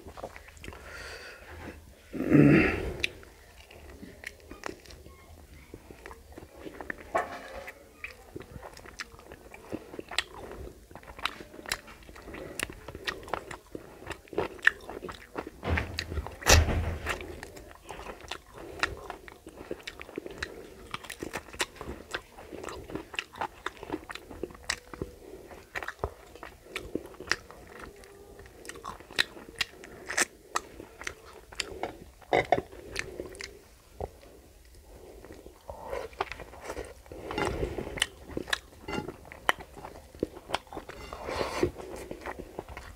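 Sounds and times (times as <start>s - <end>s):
person chewing and mouth-smacking: 0.0s - 42.9s.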